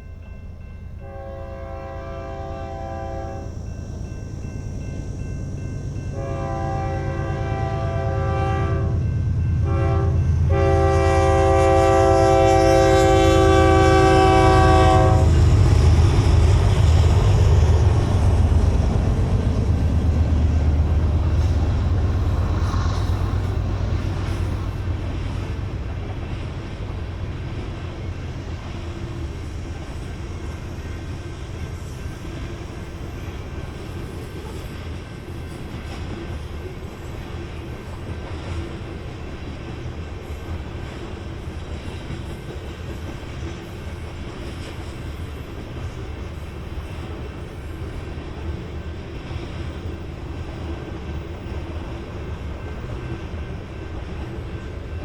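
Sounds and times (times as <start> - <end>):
diesel locomotive rumble: 0.0 - 55.0
train wheel and rail noise: 0.0 - 55.0.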